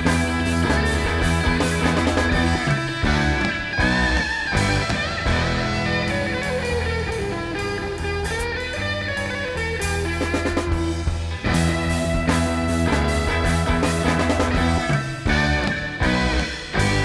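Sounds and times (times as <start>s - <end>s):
bass guitar: 0.0s - 17.0s
drum kit: 0.0s - 17.0s
lead electric guitar: 0.0s - 17.0s.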